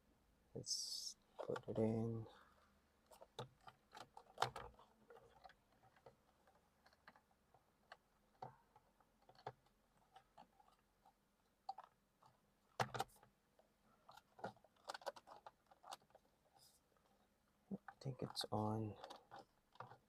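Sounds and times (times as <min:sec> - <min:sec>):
clicks and knocks of plastic parts: 0:01.3 - 0:16.3, 0:17.8 - 0:20.0.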